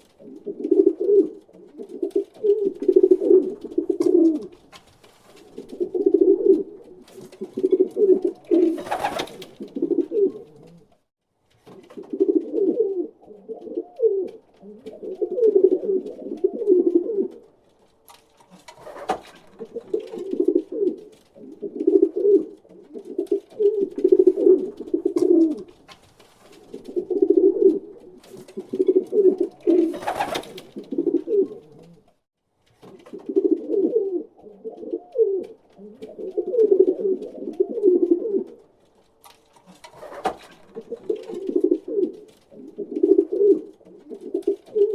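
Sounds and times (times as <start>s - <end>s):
pigeon cooing: 0.2s - 4.6s, 5.5s - 11.0s, 12.0s - 17.5s, 18.8s - 25.7s, 26.6s - 32.1s, 33.1s - 38.7s, 40.0s - 44.9s.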